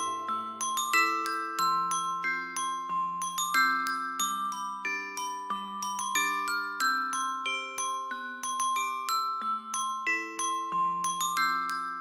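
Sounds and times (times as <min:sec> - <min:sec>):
bell-like mallet melody: 0:00.0 - 0:12.0.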